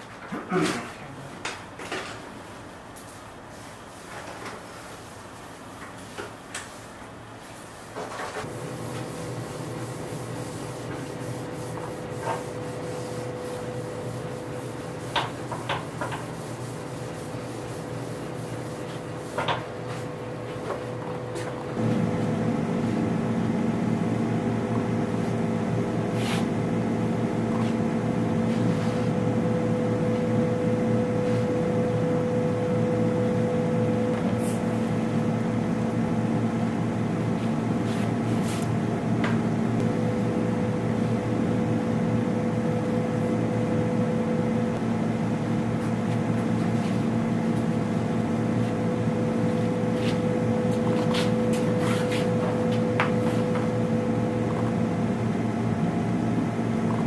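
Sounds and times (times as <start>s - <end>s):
machine humming: 8.5s - 57.0s.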